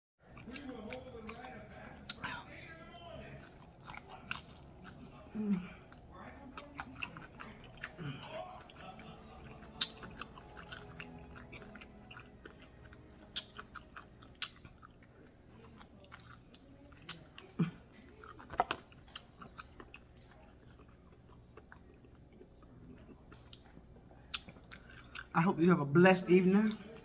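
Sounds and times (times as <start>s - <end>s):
chewing crispy chicken: 0.2s - 25.4s, 26.6s - 27.0s.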